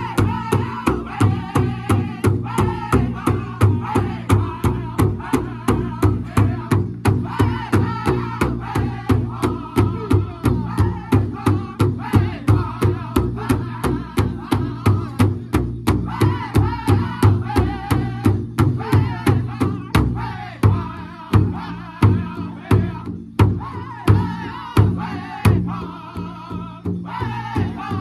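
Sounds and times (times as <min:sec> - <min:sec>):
large drum beating: 0:00.0 - 0:28.0
men singing in high voices: 0:00.0 - 0:28.0.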